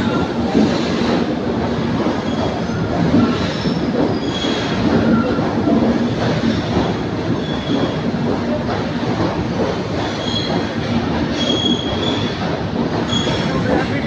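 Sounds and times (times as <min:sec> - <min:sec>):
wheels squealing on rail: 0:00.0 - 0:01.2, 0:02.1 - 0:08.1, 0:09.9 - 0:14.0
train rumbling on rails: 0:00.0 - 0:14.0.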